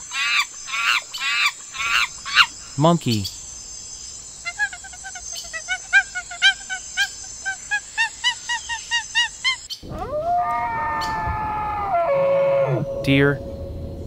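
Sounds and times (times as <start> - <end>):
monkey calling: 0.0 - 3.4, 4.4 - 13.0.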